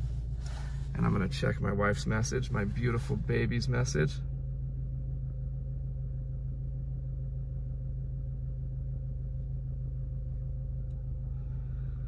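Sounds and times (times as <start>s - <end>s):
car engine idling: 0.0s - 12.0s
faint steady whine: 0.0s - 12.0s.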